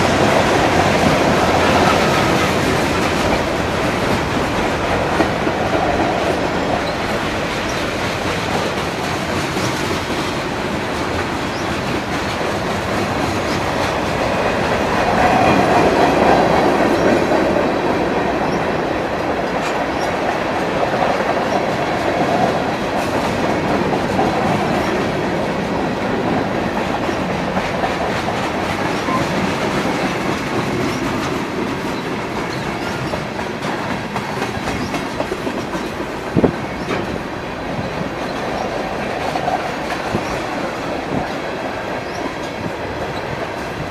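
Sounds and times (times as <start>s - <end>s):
freight train rumbling: 0.0s - 43.9s.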